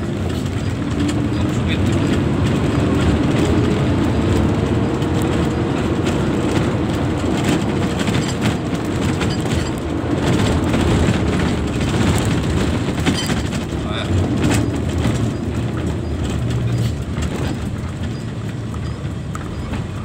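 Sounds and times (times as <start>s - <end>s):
diesel engine drone: 0.0s - 20.0s
road rumble: 0.0s - 20.0s
truck cab rattling: 0.0s - 20.0s.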